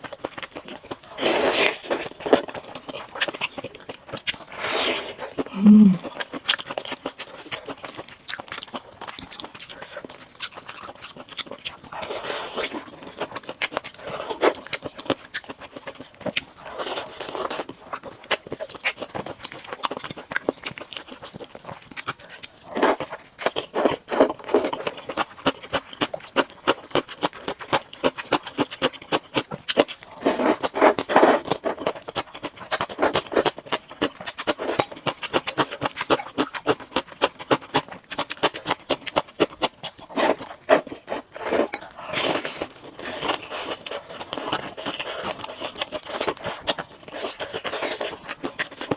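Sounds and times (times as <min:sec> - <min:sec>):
wet chewing and slurping: 0:00.0 - 0:48.9.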